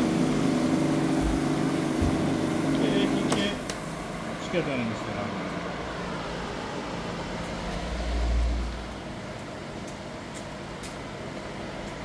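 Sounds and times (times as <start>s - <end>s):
fan whirring hum: 0.0s - 12.0s.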